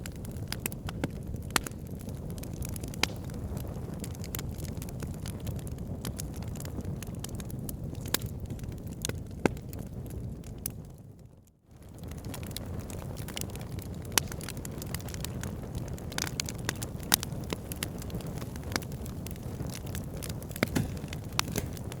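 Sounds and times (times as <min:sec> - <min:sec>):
fire flames rumbling: 0:00.0 - 0:22.0
wood fire crackling and popping: 0:00.0 - 0:22.0.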